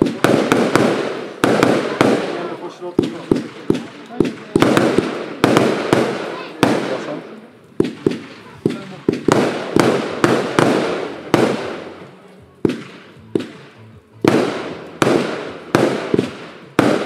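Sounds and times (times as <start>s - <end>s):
fireworks bangs with echo: 0.0s - 17.0s.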